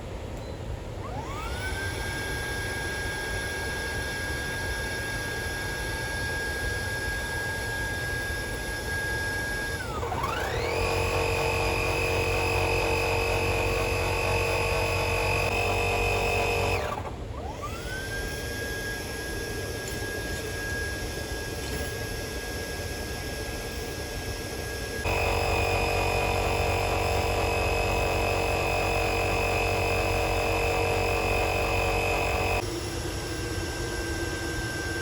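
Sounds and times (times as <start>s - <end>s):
small electric motor whining: 1.0s - 35.0s.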